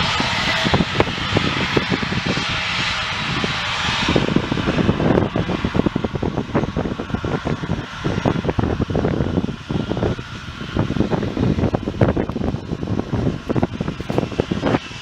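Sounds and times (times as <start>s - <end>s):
aircraft engine noise: 0.0s - 15.0s
wind buffeting microphone: 0.0s - 15.0s.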